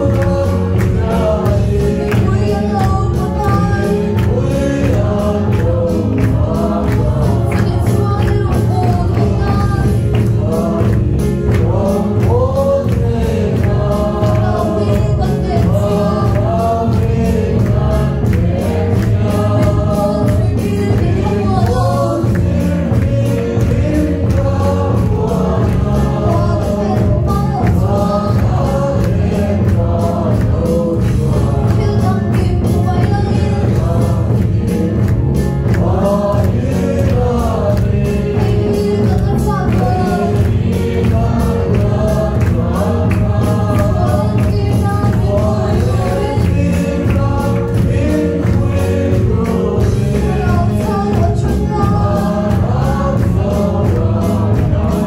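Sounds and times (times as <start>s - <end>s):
congregation singing a hymn: 0.0s - 55.0s
steady low beat: 0.0s - 55.0s.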